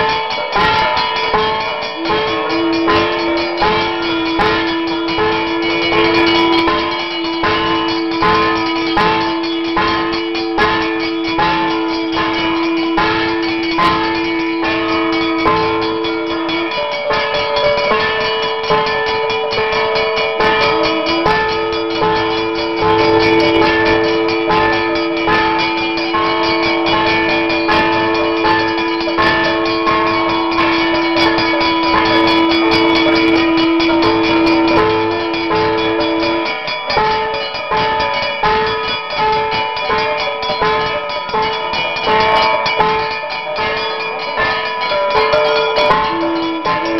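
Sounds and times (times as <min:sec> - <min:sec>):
brass hand bell ringing: 0:00.0 - 0:46.9
drone notes with melody: 0:01.3 - 0:37.6, 0:44.3 - 0:46.9.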